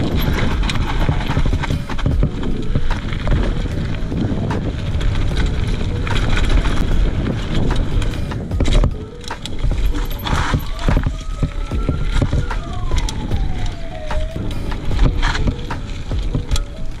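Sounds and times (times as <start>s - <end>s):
bike chain and frame rattling: 0.0s - 17.0s
tyres rumbling over dirt and stones: 0.0s - 17.0s.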